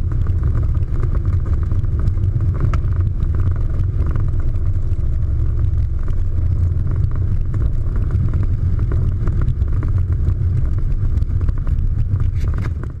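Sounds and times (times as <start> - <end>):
propeller plane engine rumbling: 0.0 - 13.0
wind buffeting microphone: 0.0 - 13.0.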